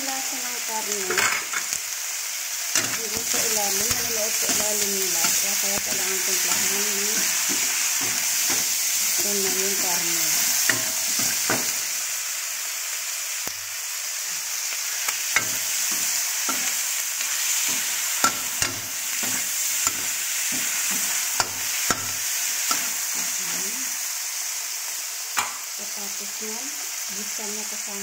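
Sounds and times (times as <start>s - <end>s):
chicken sizzling in a wok: 0.0s - 28.0s.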